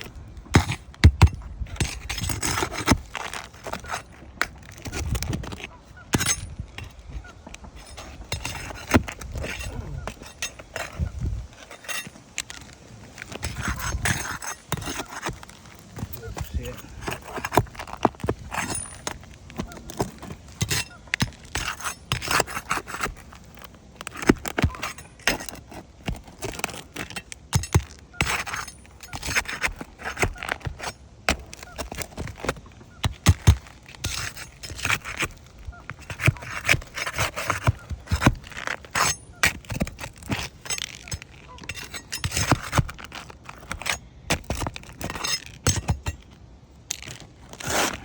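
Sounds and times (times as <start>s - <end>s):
roof shingles being handled: 0.0s - 48.0s.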